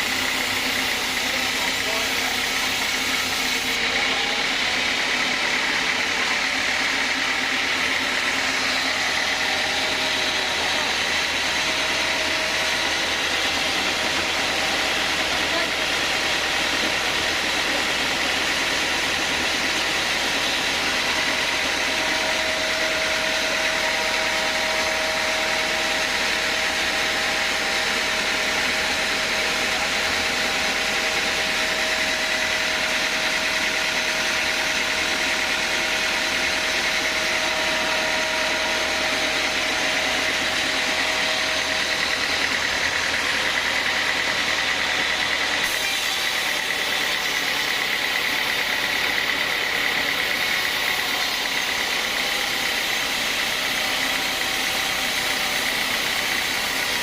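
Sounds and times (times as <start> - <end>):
band saw machinery droning: 0.0 - 57.0.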